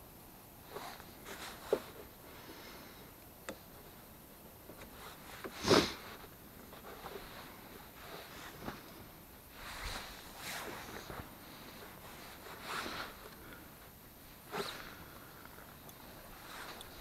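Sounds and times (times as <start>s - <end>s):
scuffs and rustles of person moving: 0.6s - 17.0s.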